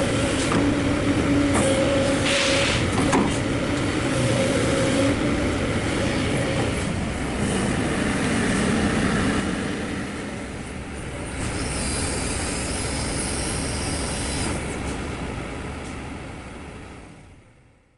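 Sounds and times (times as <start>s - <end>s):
excavator engine and hydraulics: 0.0s - 16.8s.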